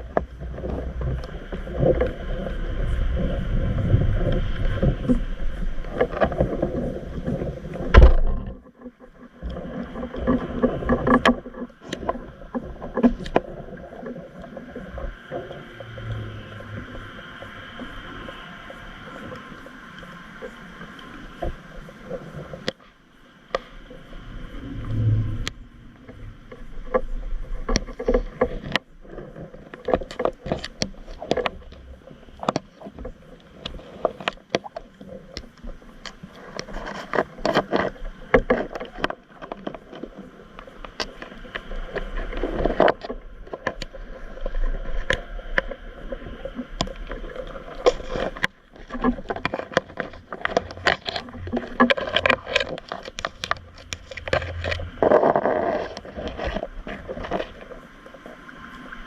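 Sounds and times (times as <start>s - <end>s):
water sloshing and splashing: 0.0s - 59.0s.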